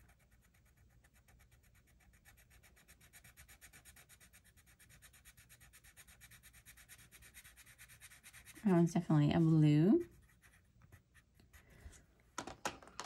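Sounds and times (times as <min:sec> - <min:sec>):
pencil scratching on paper: 0:00.0 - 0:11.9.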